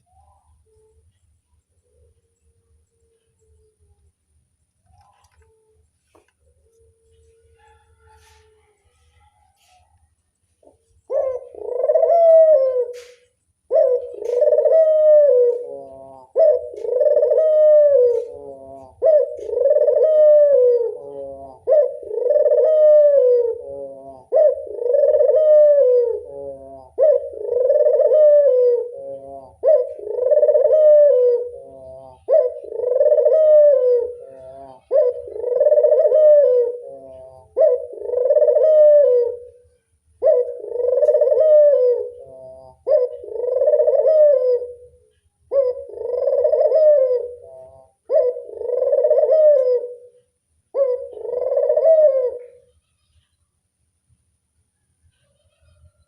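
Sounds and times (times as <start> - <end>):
dove cooing: 0.0 - 4.1, 4.8 - 53.4.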